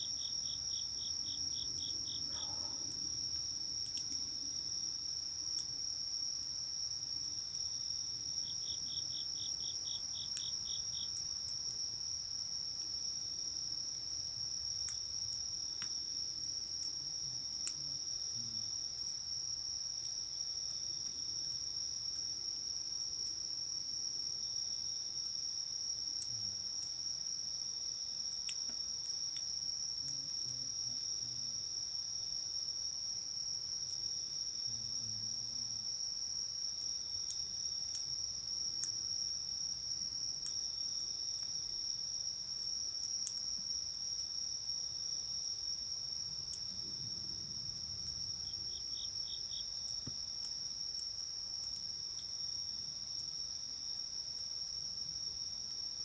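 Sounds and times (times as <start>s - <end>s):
night insects trilling: 0.0s - 56.0s
campfire crackling: 0.1s - 54.6s.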